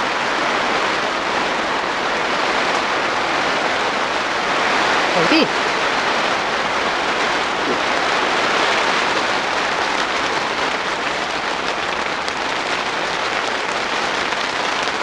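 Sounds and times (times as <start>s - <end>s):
rain on plastic cover: 0.0s - 15.0s.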